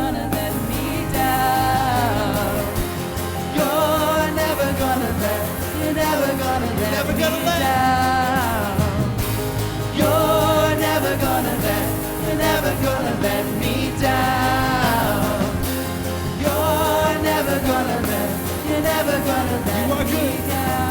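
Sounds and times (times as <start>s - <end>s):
live band playing: 0.0s - 20.9s
person singing: 0.0s - 20.9s.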